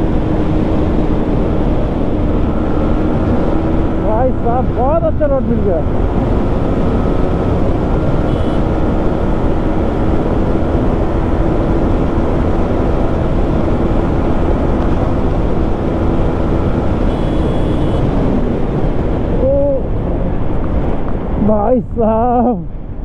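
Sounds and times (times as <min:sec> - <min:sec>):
motorcycle engine cruising: 0:00.0 - 0:21.6.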